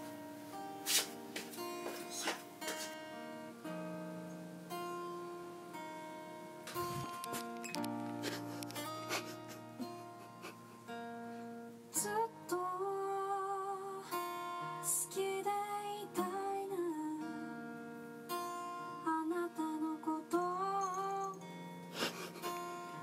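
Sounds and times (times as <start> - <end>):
gentle acoustic guitar song: 0.0 - 23.0.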